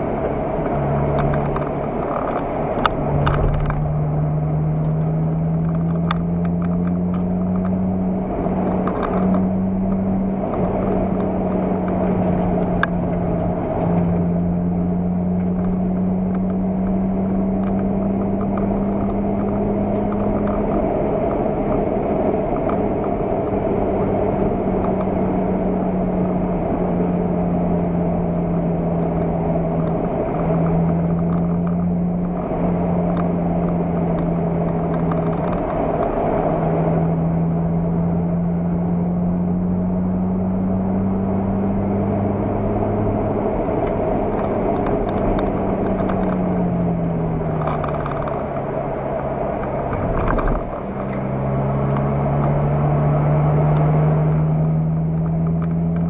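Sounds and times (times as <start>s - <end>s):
wind noise: 0.0s - 38.8s, 39.6s - 56.0s
car engine under load: 0.0s - 56.0s
road noise: 0.0s - 56.0s.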